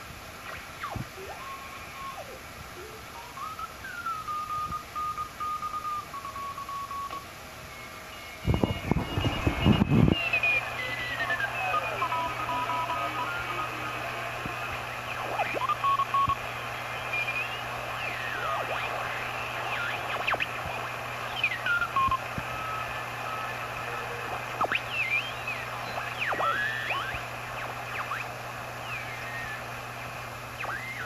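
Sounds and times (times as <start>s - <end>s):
radio static hiss: 0.0s - 31.0s
radio whistles gliding in pitch: 0.4s - 31.0s.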